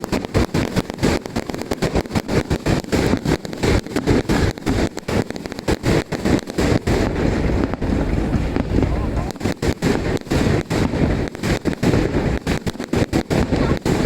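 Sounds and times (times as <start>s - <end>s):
fireworks barrage: 0.0s - 14.0s.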